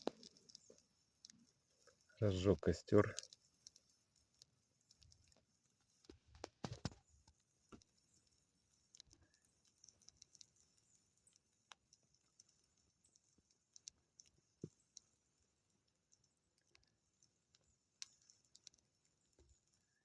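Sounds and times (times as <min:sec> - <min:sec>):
campfire crackling: 0:00.0 - 0:19.7.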